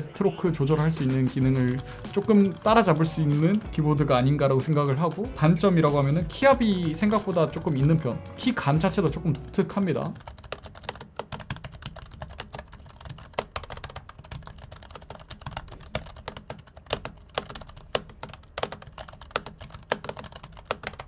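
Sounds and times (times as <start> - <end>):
fast typing on a keyboard: 0.6 - 21.0.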